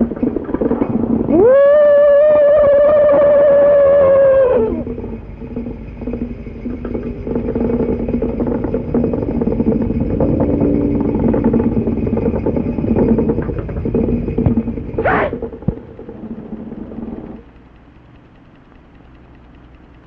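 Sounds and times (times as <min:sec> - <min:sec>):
low hum: 0:00.0 - 0:20.0
rattling engine-like drone: 0:00.0 - 0:20.0.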